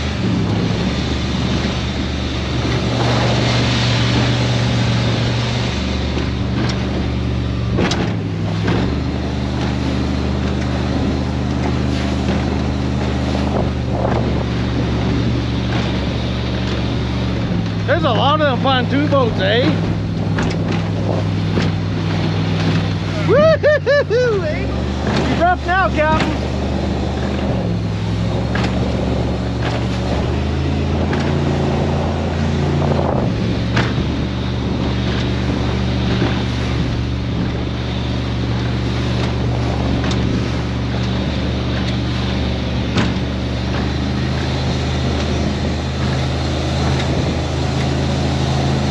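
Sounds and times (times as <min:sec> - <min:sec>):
powerboat engine running: 0:00.0 - 0:48.9
rush of wind and water: 0:00.0 - 0:48.9.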